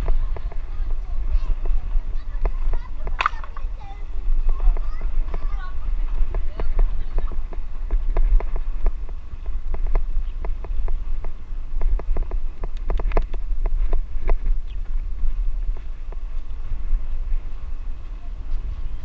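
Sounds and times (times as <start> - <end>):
bicycle rattling over rough track: 0.0 - 19.0
wind rumbling on microphone: 0.0 - 19.0.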